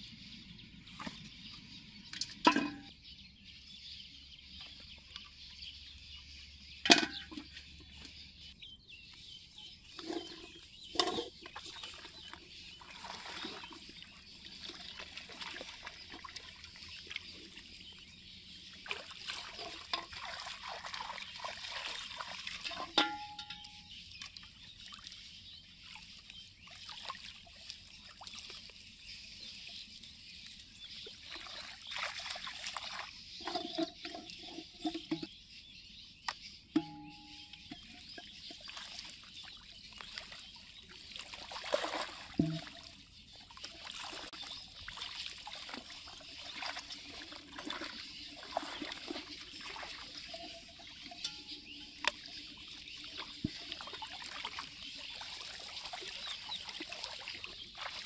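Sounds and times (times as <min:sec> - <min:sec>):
water splashing and trickling: 0:00.7 - 0:58.0.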